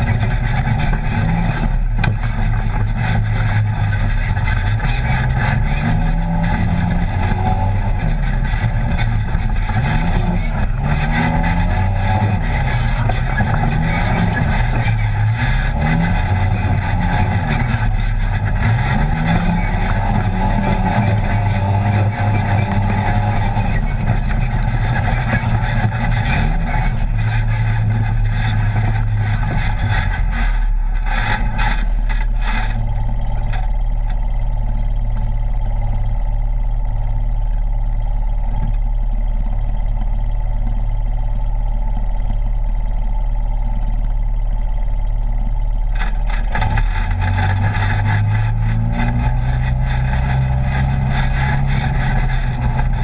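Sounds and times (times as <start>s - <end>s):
off-road vehicle engine running: 0.0s - 53.0s
rattle and trail noise: 0.0s - 53.0s.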